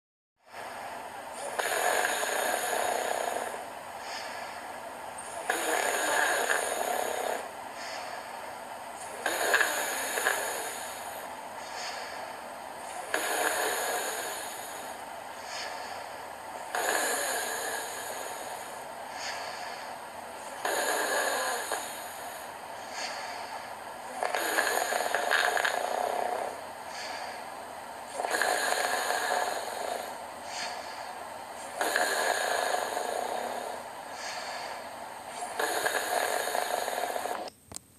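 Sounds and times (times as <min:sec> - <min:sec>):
quiet breaths: 0:00.4 - 0:37.8
man snoring loudly: 0:01.4 - 0:04.5, 0:05.2 - 0:08.2, 0:09.0 - 0:12.2, 0:12.8 - 0:37.5.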